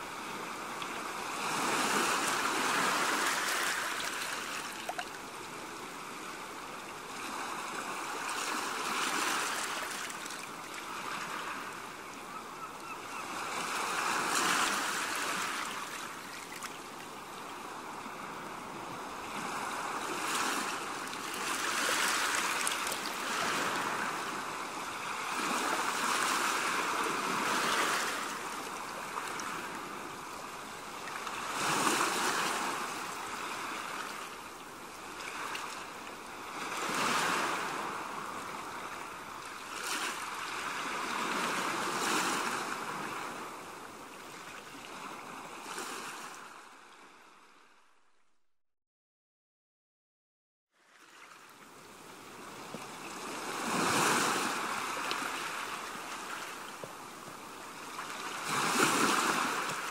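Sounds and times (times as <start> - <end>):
sea waves washing onto beach: 0.0 - 12.0, 13.3 - 43.8, 51.9 - 59.9.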